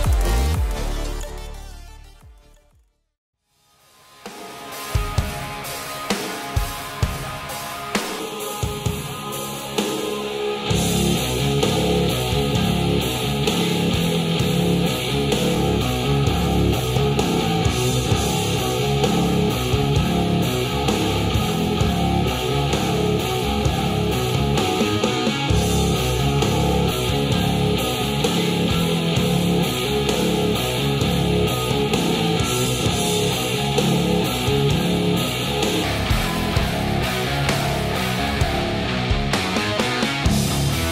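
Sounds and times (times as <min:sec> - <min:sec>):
rock music through speakers: 0:00.0 - 0:02.6, 0:03.8 - 0:40.9.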